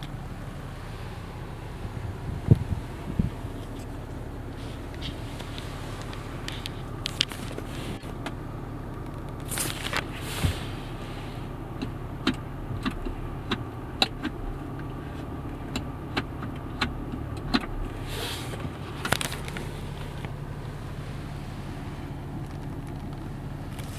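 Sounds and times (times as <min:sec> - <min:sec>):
car engine hum inside cabin: 0:00.0 - 0:23.9.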